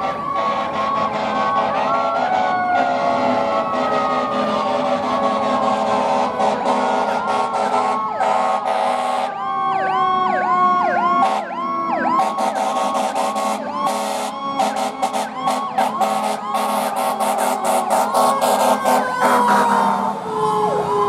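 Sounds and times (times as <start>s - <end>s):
air horn blasts: 0.0s - 9.4s, 11.2s - 11.6s, 12.2s - 20.1s
siren fast yelp: 0.5s - 5.7s, 6.6s - 21.0s.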